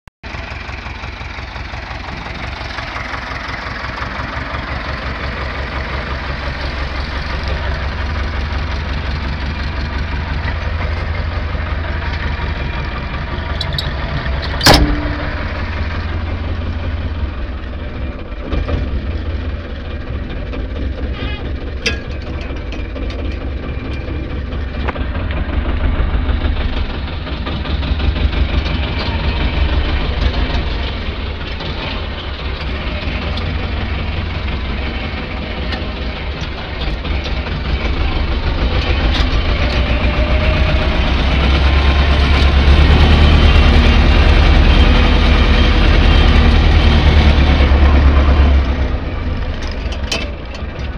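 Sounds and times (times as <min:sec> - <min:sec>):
tractor diesel engine clattering: 0:00.2 - 0:50.9.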